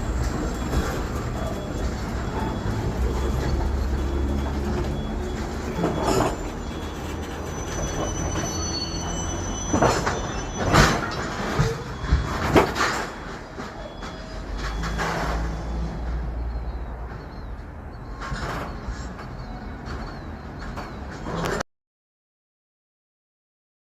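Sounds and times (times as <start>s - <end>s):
diesel locomotive rumble: 0.0s - 21.6s
faint high wheel squeal: 0.0s - 21.6s
sharp clanks from train cars: 0.0s - 21.6s.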